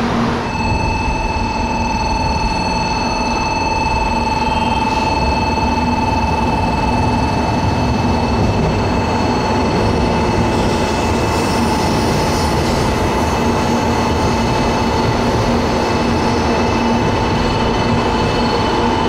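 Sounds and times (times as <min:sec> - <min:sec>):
steady whining tones: 0:00.0 - 0:19.0
train rumbling: 0:00.0 - 0:19.0.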